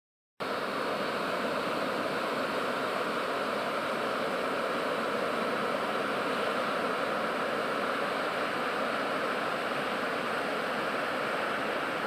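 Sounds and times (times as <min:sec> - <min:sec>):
river water rushing: 0:00.4 - 0:12.0.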